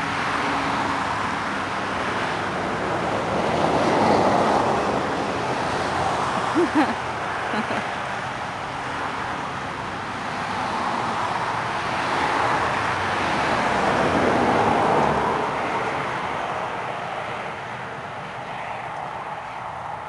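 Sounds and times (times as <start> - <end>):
vehicle passing by: 0.0 - 7.9, 10.3 - 20.0.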